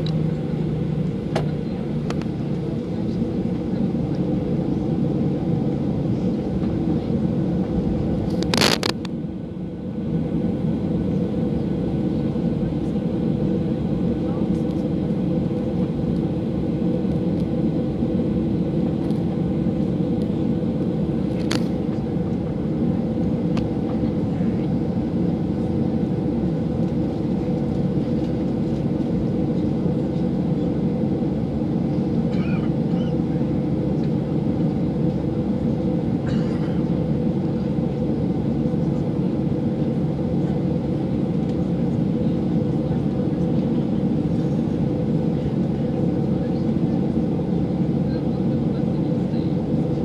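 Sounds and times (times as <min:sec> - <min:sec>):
jet engine drone in cabin: 0:00.0 - 0:50.0.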